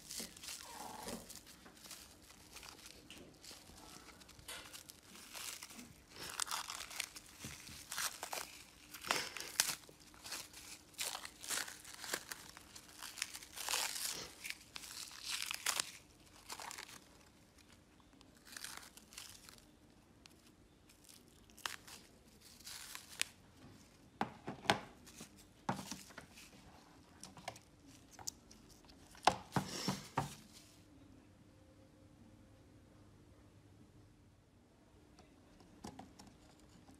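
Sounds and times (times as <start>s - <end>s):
plastic wrap crinkling and tearing: 0.0s - 24.2s, 24.9s - 30.8s.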